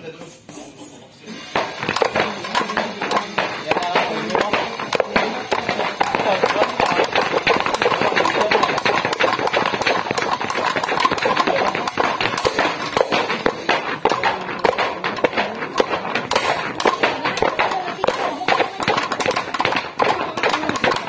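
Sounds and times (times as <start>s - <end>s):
battle ropes slapping concrete floor: 1.3s - 21.0s.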